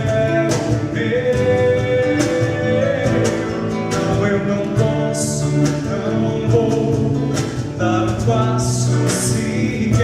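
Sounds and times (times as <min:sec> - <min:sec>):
acoustic guitar: 0:00.0 - 0:10.0
worship song sung live: 0:00.0 - 0:10.0.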